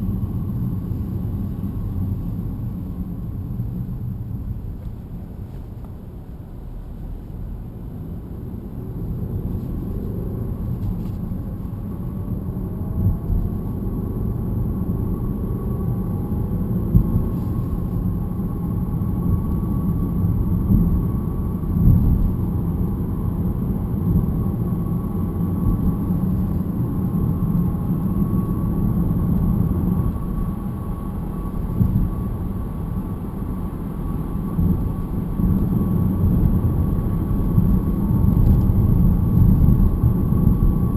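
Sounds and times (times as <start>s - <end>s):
road rumble inside car cabin: 0.0s - 40.9s.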